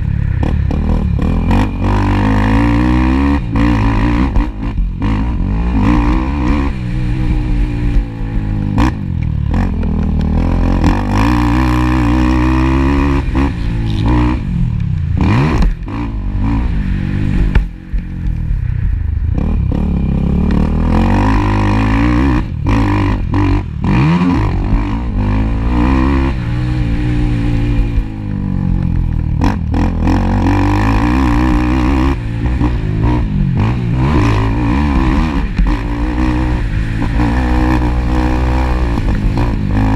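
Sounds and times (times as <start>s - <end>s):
atv engine revving: 0.0s - 18.6s, 19.3s - 39.9s.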